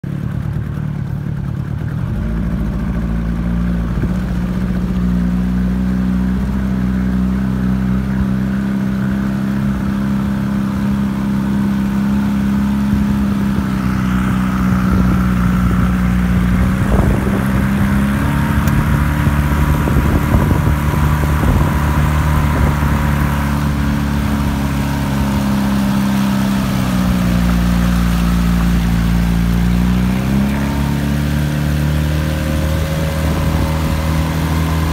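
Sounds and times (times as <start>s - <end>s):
outboard motor running: 0.0s - 34.9s
water and wind rushing: 2.0s - 34.9s.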